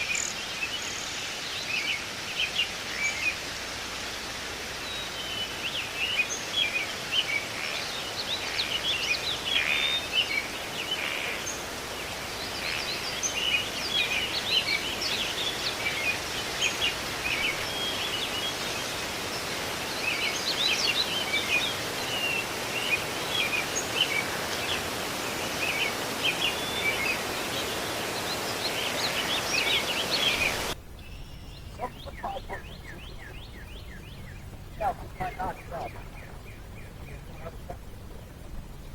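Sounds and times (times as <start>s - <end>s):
birds chirping: 0.0s - 38.9s
steady outdoor hiss: 0.0s - 38.9s.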